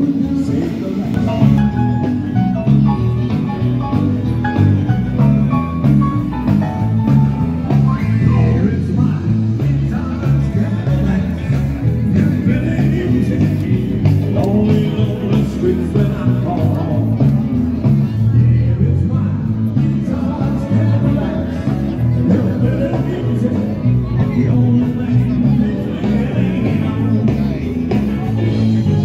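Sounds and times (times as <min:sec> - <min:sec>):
music with steady beat and bass: 0:00.0 - 0:29.0.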